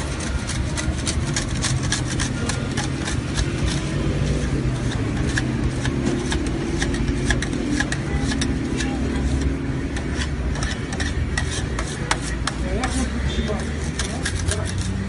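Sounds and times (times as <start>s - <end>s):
scraping: 0.0s - 15.0s.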